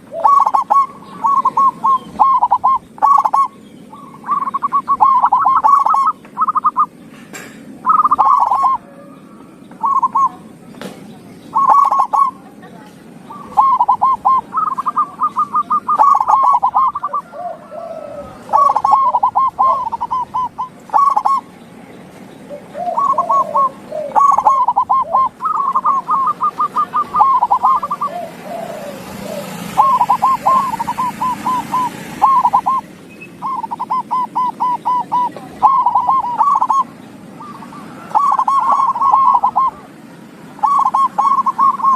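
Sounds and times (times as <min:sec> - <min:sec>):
dove cooing trills: 0:00.0 - 0:41.9.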